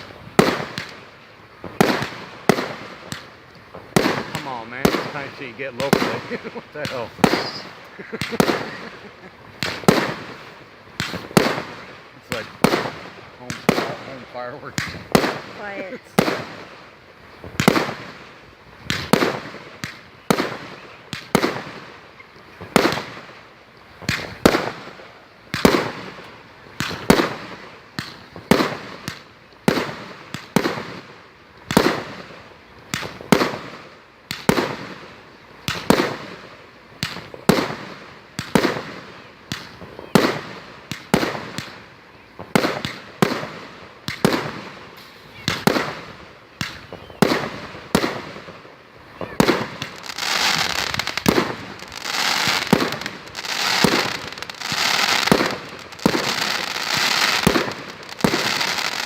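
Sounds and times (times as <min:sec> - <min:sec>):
fireworks booming: 0:00.0 - 0:59.0.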